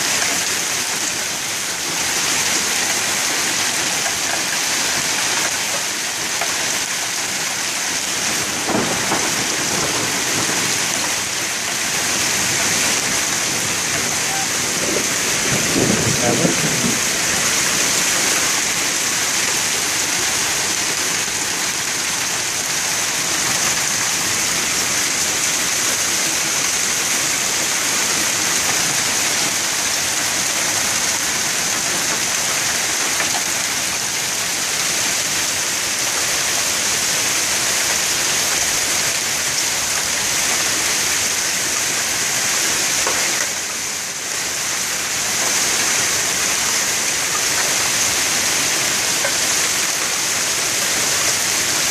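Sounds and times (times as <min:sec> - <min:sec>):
hail and heavy rain pouring: 0:00.0 - 0:51.9.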